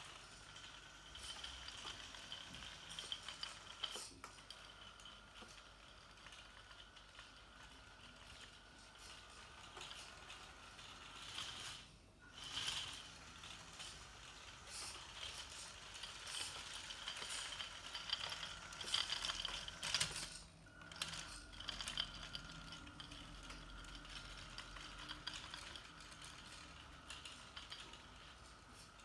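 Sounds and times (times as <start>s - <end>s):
plastic harrow rattling: 0.0s - 29.0s
small electric motor whining: 0.0s - 29.0s.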